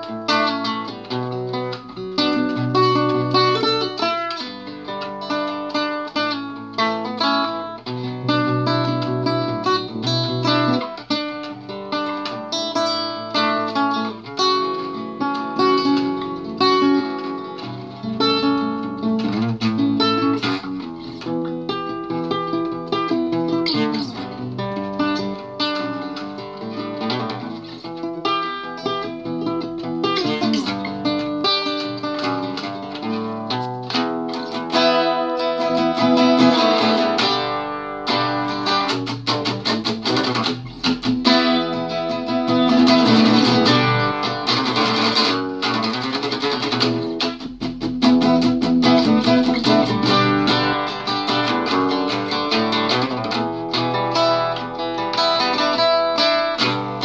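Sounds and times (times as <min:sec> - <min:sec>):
classical guitar playing: 0:00.0 - 0:57.0.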